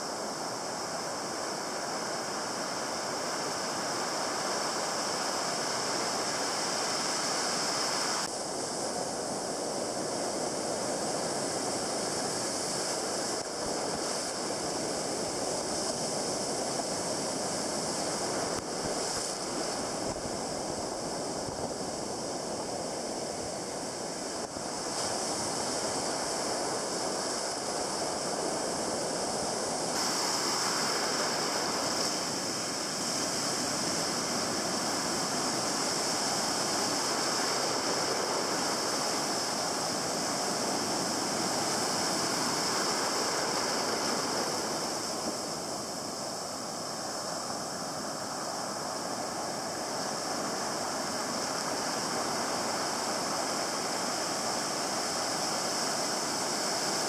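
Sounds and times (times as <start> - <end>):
ocean surf breaking: 0.5 - 57.0.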